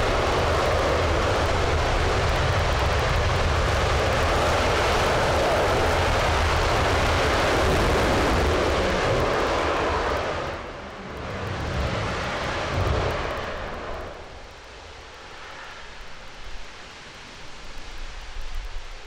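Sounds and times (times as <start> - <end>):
rocket engine roaring: 0.0 - 16.7
low rumbles: 0.0 - 16.8.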